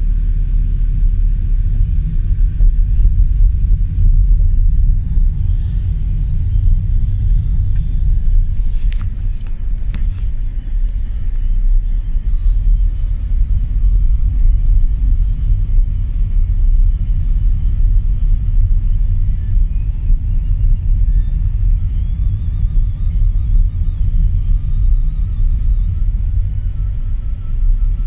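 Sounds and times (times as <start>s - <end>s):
car cabin rumble: 0.0s - 28.0s.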